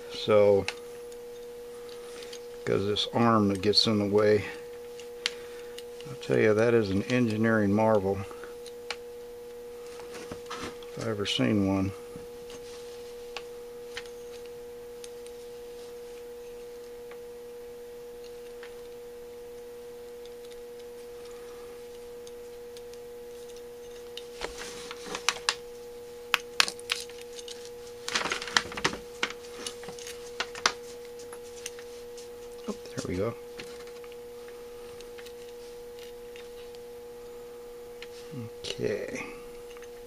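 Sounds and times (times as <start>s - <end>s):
high electrical hum: 0.0s - 40.0s.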